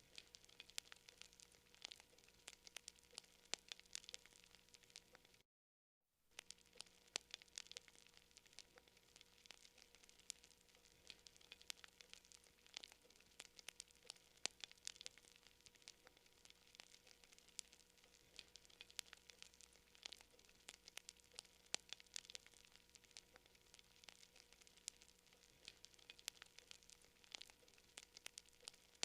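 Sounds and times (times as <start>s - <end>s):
campfire crackling: 0.0s - 5.4s, 6.3s - 29.0s.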